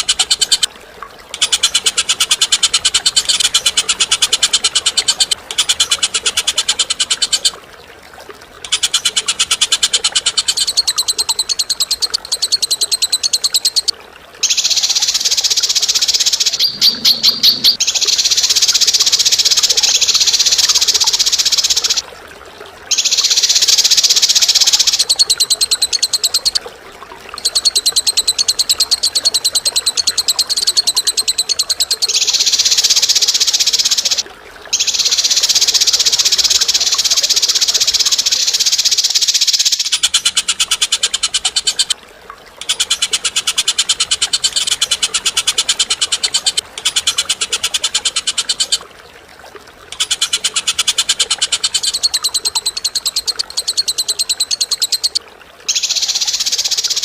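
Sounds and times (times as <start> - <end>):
songbird buzzy chattering trill: 0.0 - 0.7, 1.3 - 7.6, 8.6 - 22.0, 22.9 - 26.6, 27.4 - 34.2, 34.8 - 42.0, 42.6 - 48.8, 49.9 - 57.0.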